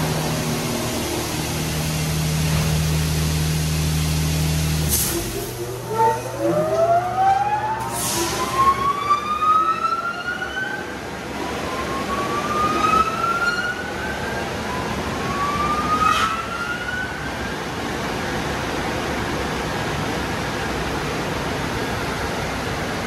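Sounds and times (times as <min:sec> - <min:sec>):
car wash rushing: 0:00.0 - 0:23.0.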